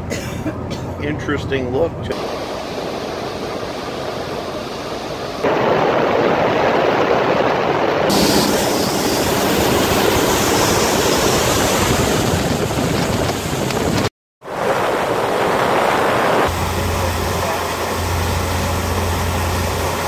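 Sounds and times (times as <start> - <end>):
water rushing past boat: 1.2 - 20.0
wind buffeting microphone: 1.5 - 20.0.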